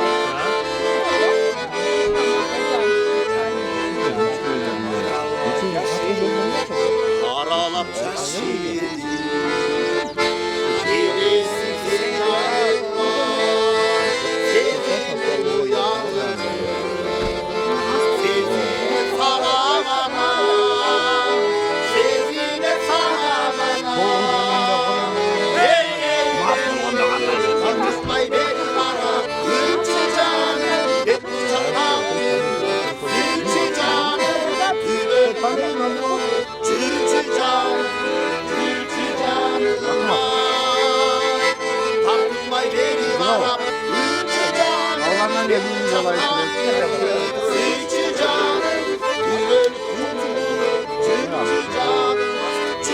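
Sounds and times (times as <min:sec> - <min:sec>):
accordion playing sustained chords: 0:00.0 - 0:52.9.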